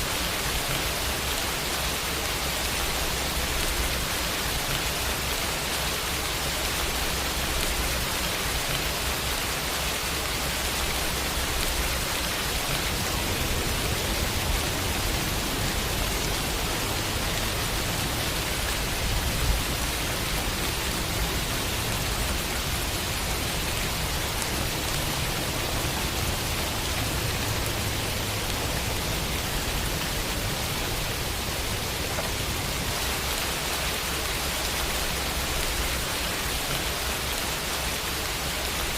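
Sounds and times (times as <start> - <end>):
rain falling on a window: 0.0 - 38.9.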